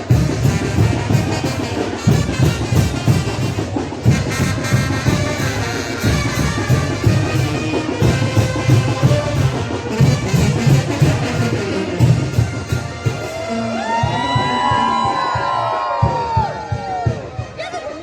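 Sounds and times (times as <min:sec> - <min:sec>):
trumpets and trombones melody: 0:00.0 - 0:14.7
steady drum beat: 0:00.0 - 0:17.8.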